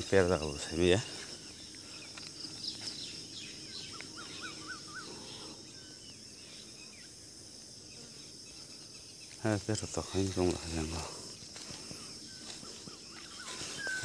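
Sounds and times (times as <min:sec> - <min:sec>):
bird chirps: 0:00.0 - 0:07.2, 0:07.8 - 0:14.0
high insect drone: 0:00.0 - 0:14.0.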